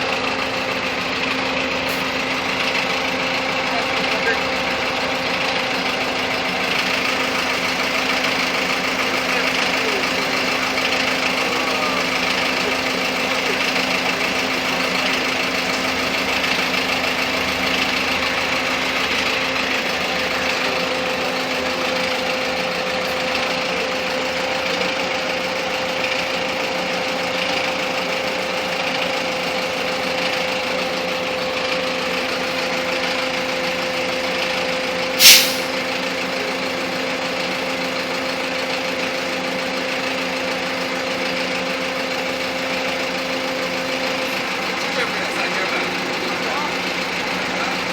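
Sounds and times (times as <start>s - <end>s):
truck engine idling: 0.0s - 47.9s.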